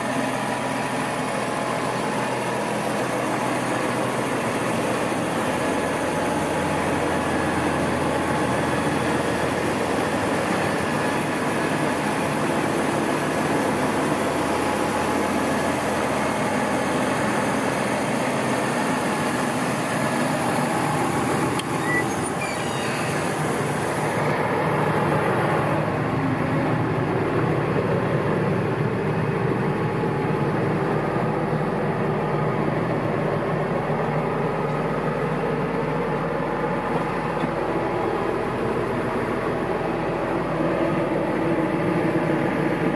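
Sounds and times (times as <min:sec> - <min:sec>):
tractor diesel engine idling: 0:00.0 - 0:42.9.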